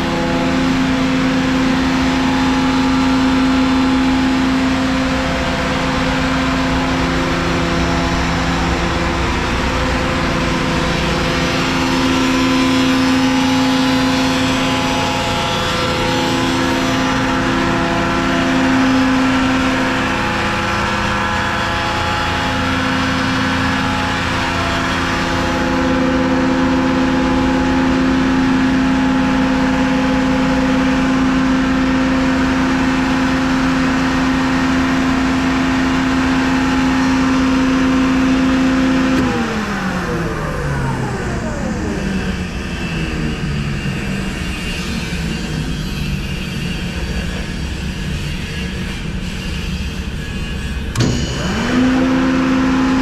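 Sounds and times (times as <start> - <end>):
air compressor humming and whining: 0.0 - 53.0.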